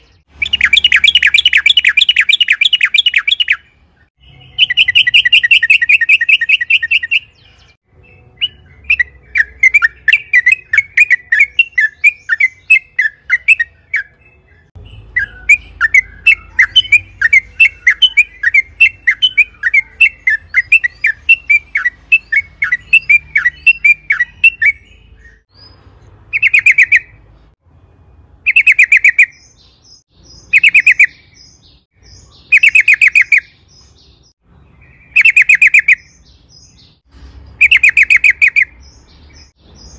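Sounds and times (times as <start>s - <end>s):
bird singing trills and chatter: 0.0s - 27.2s, 28.5s - 39.9s.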